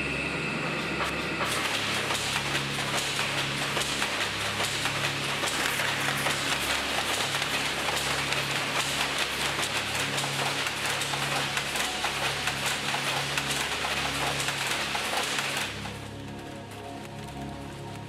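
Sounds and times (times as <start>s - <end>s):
low hum: 0.0s - 18.0s
weaving looms clattering: 1.0s - 16.3s.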